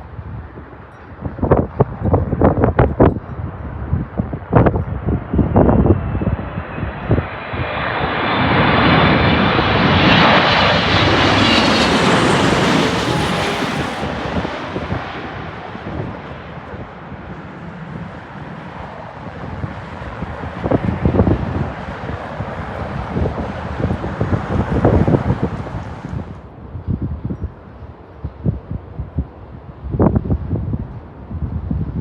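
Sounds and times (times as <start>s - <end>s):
jet airliner passing by: 0.0s - 27.4s
wind buffeting microphone: 0.0s - 32.0s.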